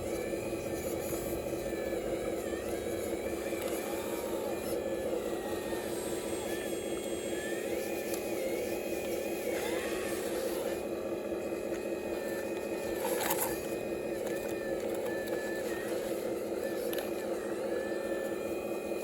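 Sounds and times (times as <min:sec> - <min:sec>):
electric motors humming: 0:00.0 - 0:19.0
thin wavering whine: 0:00.0 - 0:19.0.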